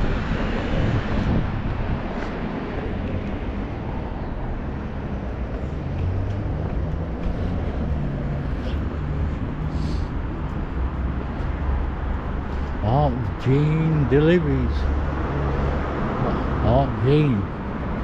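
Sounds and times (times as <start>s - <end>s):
street noise: 0.0s - 18.0s
vehicle engine humming: 0.0s - 18.0s.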